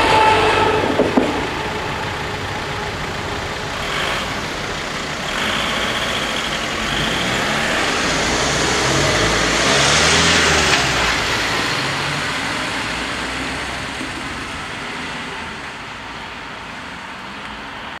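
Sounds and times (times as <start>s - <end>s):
car driving off: 0.0s - 18.0s
van engine pulling away: 0.0s - 18.0s.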